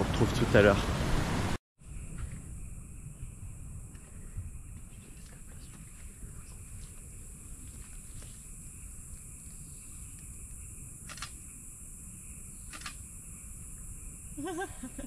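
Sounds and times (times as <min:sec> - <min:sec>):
low wind rumble: 0:00.0 - 0:15.0
high-pitched insect drone: 0:01.8 - 0:15.0.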